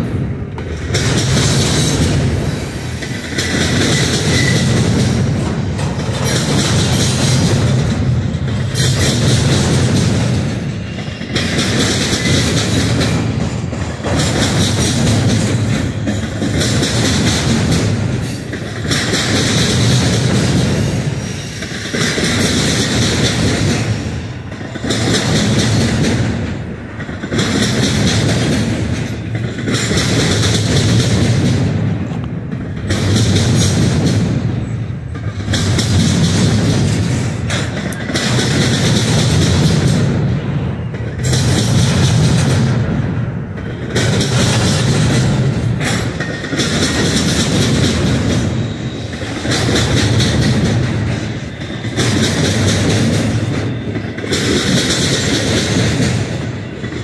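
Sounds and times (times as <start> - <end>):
freight train wheels rumbling on rail: 0.0 - 57.0.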